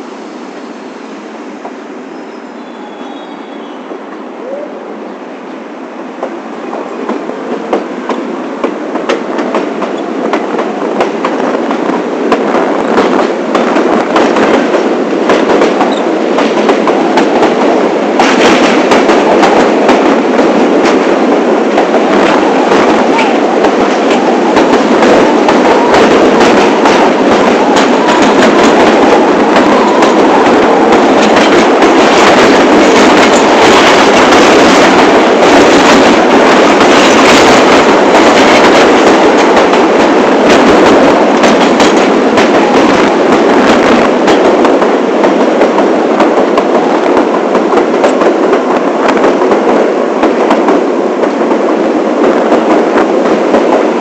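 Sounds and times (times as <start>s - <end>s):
subway train running on rails: 0.0s - 54.0s.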